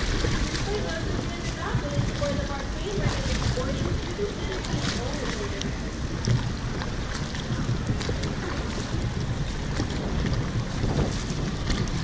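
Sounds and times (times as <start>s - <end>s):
canoe paddles splashing in water: 0.0s - 12.0s
wind rumbling on microphone: 0.0s - 12.0s.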